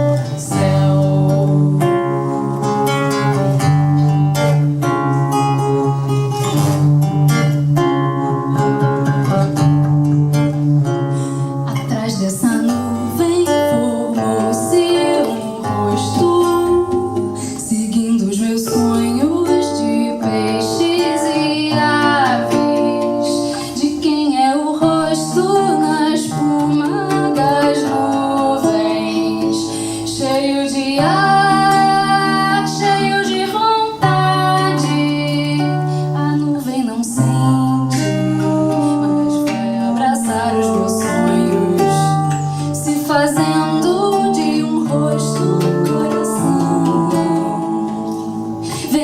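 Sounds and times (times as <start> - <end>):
plucked guitar chords: 0.0 - 49.0.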